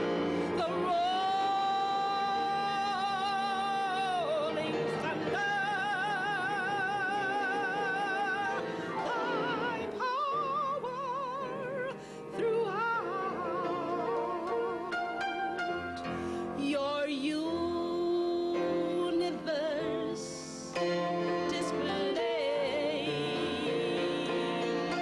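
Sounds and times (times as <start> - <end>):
instrumental accompaniment: 0.0 - 25.0
person singing operatically: 0.0 - 25.0.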